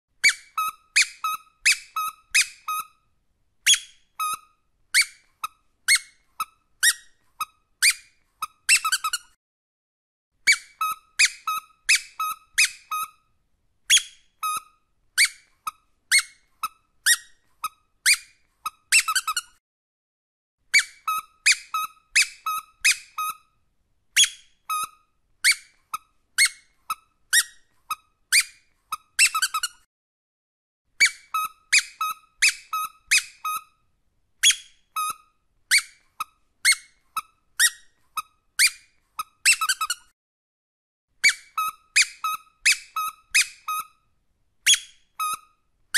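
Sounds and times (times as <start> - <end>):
squeaky dog toy squeaking: 0.2 - 9.4, 10.4 - 19.6, 20.7 - 23.6, 24.2 - 29.9, 31.0 - 40.1, 41.2 - 45.7.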